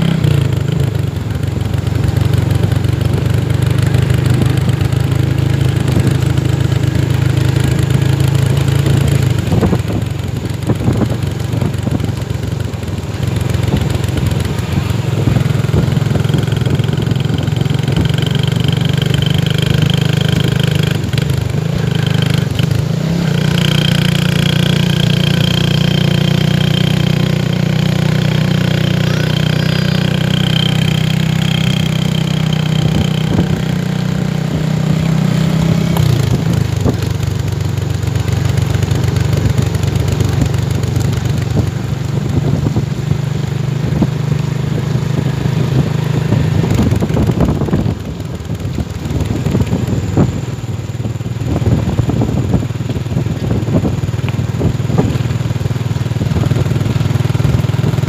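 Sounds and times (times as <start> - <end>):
small motorcycle engines humming: 0.0 - 58.0.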